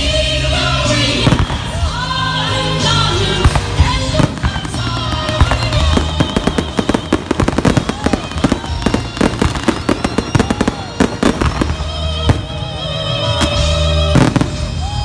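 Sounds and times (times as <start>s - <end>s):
music playing: 0.0s - 15.0s
fireworks bangs: 1.1s - 15.0s.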